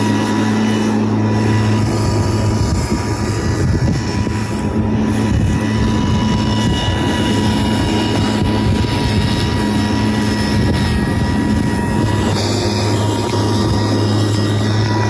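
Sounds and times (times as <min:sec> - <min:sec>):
electric lawn mower whining: 0:00.0 - 0:15.0.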